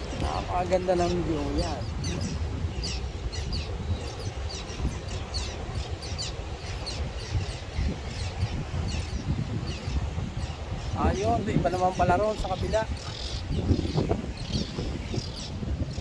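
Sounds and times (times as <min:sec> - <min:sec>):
small bird chirping: 0:00.0 - 0:16.0
wind rumble on microphone: 0:00.0 - 0:16.0.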